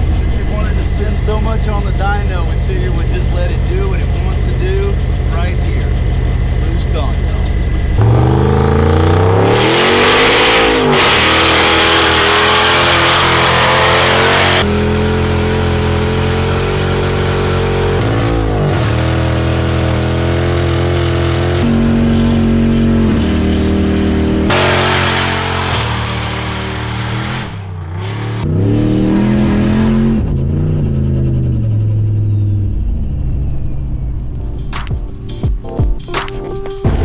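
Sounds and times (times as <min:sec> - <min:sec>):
car engine revving hard: 0:00.0 - 0:32.7.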